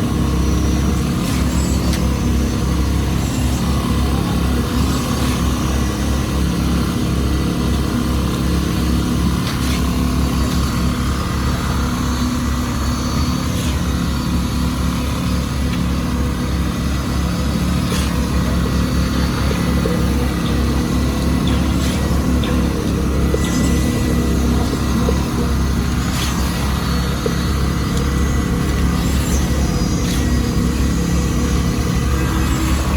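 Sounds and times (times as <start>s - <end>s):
heavy truck engine running: 0.0s - 32.9s.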